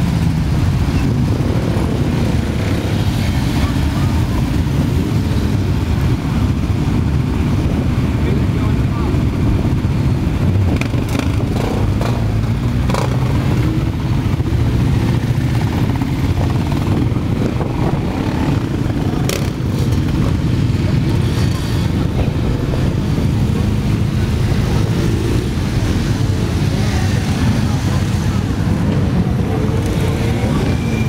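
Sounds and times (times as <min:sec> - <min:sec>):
motorcycle engines rumbling: 0:00.0 - 0:31.0.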